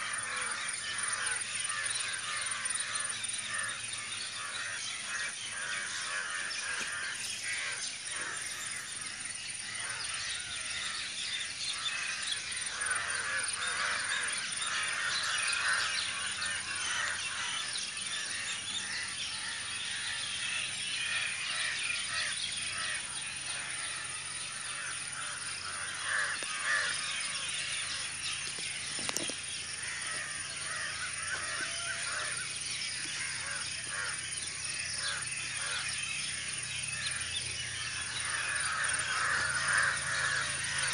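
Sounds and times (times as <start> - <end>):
flock of birds calling: 0.0 - 40.9.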